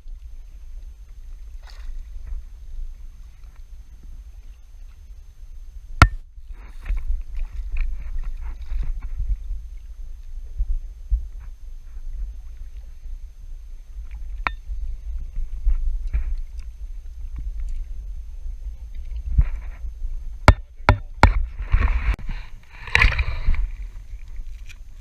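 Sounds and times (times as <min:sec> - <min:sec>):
water moving around a boat: 0:00.0 - 0:25.0.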